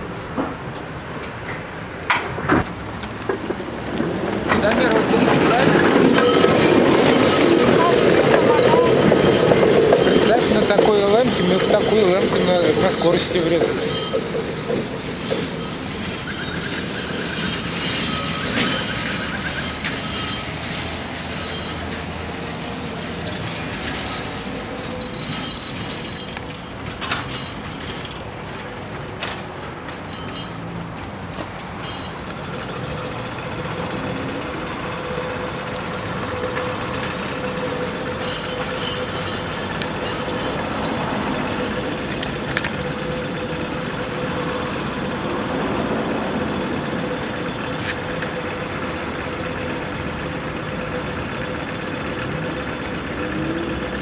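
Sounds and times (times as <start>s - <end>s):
trams and traffic passing: 0.0s - 54.0s.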